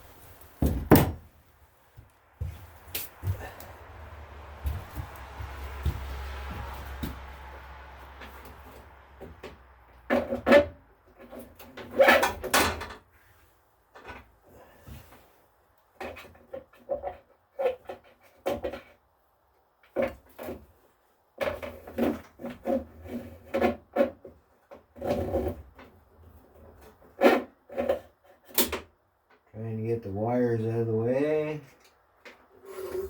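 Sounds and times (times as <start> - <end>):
clunks knocks and rattles of parts: 0.0 - 3.6, 4.6 - 13.1, 13.9 - 19.0, 19.8 - 29.5.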